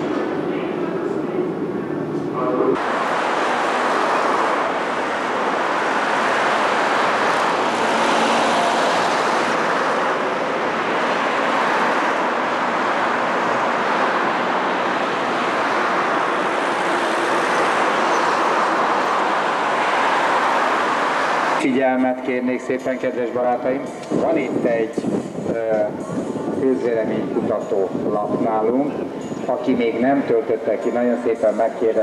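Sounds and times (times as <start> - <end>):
road traffic rushing: 0.0 - 32.0.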